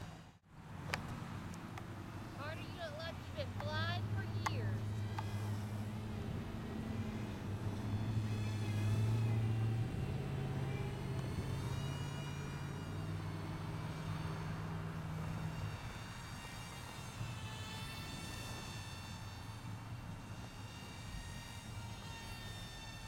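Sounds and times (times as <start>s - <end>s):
low steady hum: 0.0s - 23.0s
propeller motor whining: 0.0s - 23.0s.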